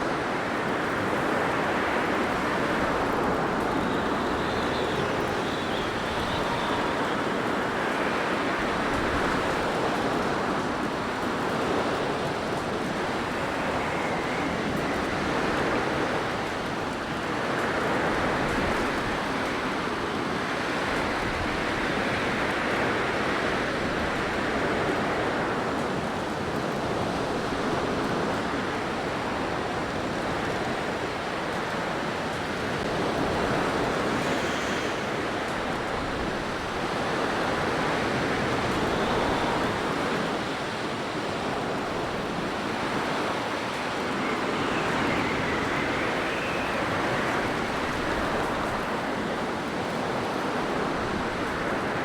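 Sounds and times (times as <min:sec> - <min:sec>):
faint high wind whistle: 0:00.0 - 0:25.7, 0:27.0 - 0:52.0
blizzard wind rushing: 0:00.0 - 0:52.0.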